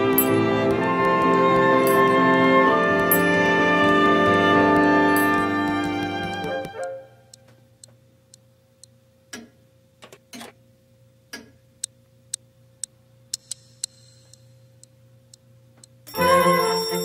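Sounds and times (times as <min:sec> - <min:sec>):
clock ticking: 0:00.0 - 0:09.5, 0:11.8 - 0:16.0.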